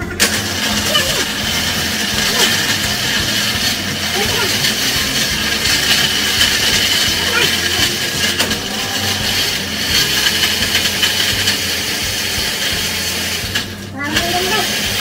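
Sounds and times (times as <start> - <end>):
blender running: 0.0 - 15.0.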